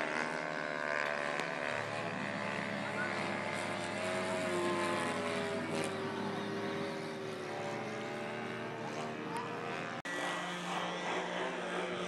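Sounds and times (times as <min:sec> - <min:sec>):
model airplane motor droning: 0:00.0 - 0:12.0.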